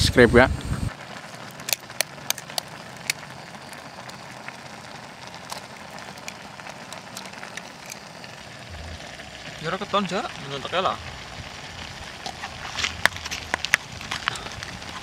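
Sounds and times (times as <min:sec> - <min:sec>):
pot cooking on stove: 0:00.8 - 0:15.0.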